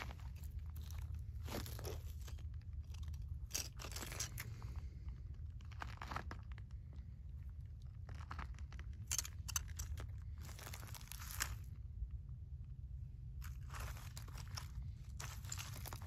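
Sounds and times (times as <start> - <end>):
dry debris crinkling and crunching: 0.0 - 12.2, 13.3 - 16.0.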